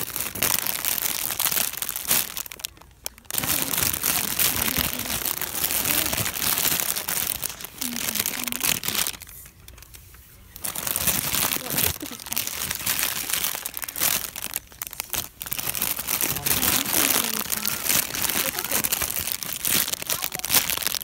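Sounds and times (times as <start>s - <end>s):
crackly rustling handling noise: 0.0s - 21.0s.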